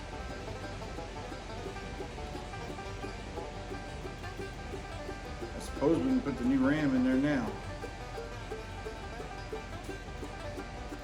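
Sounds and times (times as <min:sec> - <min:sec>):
plucked banjo-like strings music: 0:00.0 - 0:11.0.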